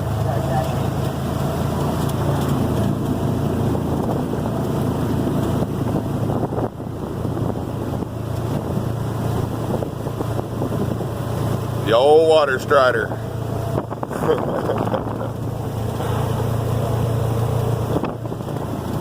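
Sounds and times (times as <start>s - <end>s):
vehicle engine running: 0.0s - 19.0s
wind buffeting microphone: 0.1s - 12.0s, 13.0s - 19.0s.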